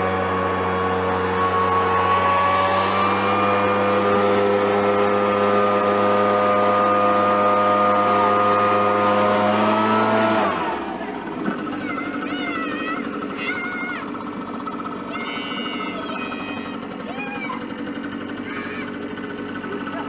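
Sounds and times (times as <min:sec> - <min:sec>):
leaf blower engine drone: 0:00.0 - 0:20.0.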